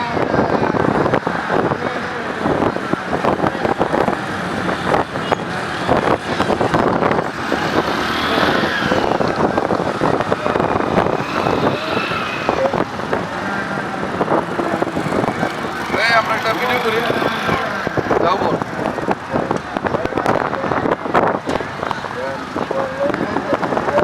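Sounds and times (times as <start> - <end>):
motorcycle engine running hard: 0.0 - 24.0.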